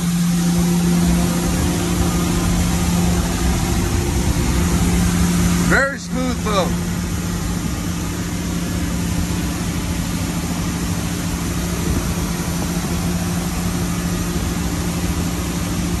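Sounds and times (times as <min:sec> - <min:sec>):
boat engine drone: 0:00.0 - 0:16.0
wind: 0:00.0 - 0:16.0.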